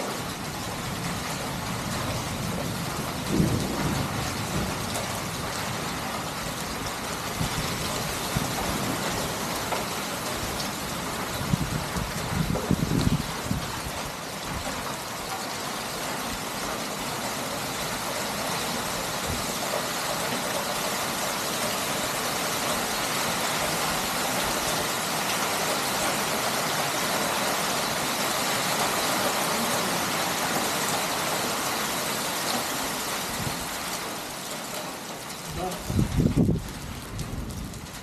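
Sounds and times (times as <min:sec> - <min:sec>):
heavy rain on pavement and roofs: 0:00.0 - 0:38.0.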